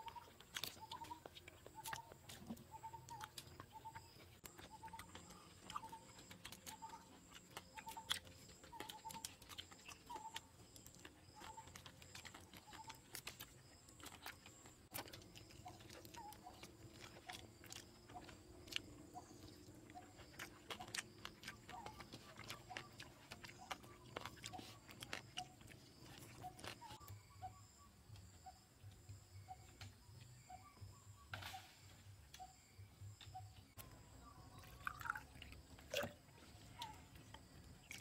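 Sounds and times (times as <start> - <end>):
wet chewing and lip-smacking: 0.0 - 27.2, 33.8 - 38.0.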